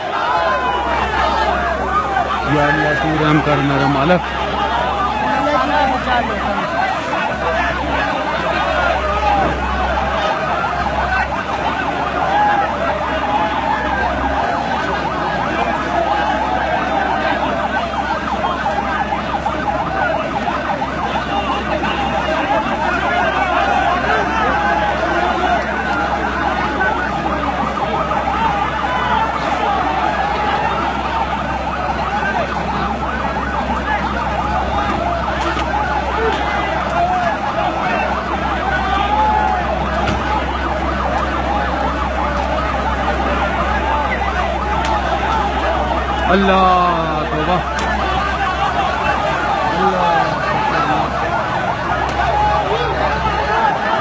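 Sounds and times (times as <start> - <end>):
crowd shouting and babble: 0.0 - 54.0
emergency vehicle siren: 0.0 - 54.0.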